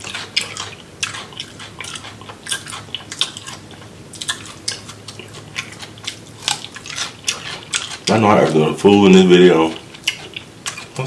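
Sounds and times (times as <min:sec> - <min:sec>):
man chewing and biting: 0:00.0 - 0:11.0.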